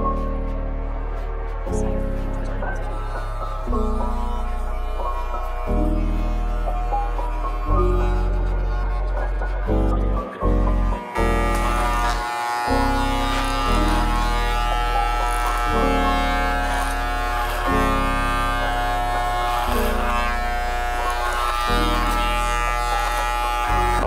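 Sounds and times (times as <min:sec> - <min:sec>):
electric hair clippers buzzing: 0:02.4 - 0:09.2, 0:10.5 - 0:24.0.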